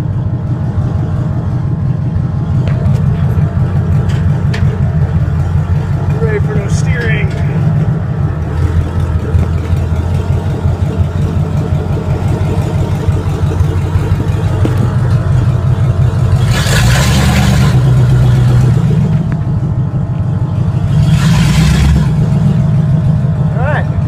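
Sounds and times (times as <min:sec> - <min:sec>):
truck engine deep rumble: 0:00.0 - 0:24.0.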